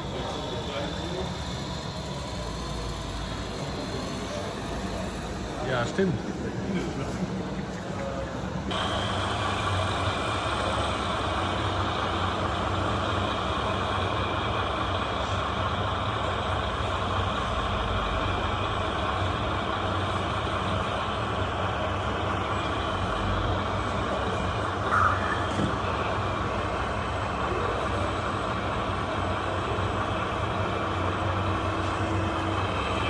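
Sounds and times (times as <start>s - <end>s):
model truck motors whining: 0.0s - 33.0s.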